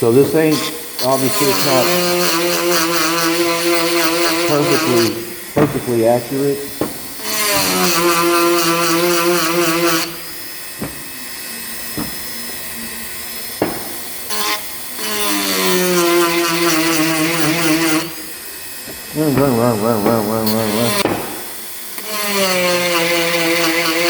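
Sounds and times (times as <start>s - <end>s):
rotary tool grinding whine: 0.0s - 24.0s.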